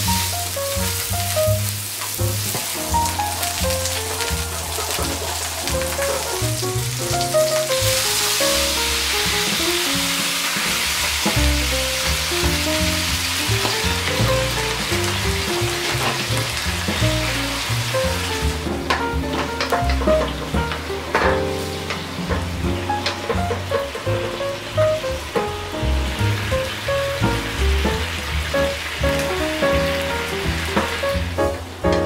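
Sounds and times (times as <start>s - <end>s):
fish sizzling in a frying pan: 0.0s - 18.6s, 19.6s - 31.4s.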